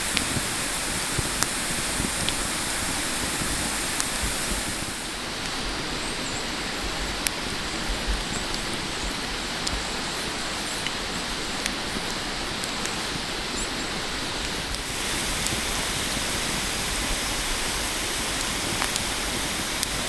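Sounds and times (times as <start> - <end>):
food sizzling on a grill: 0.0 - 20.0.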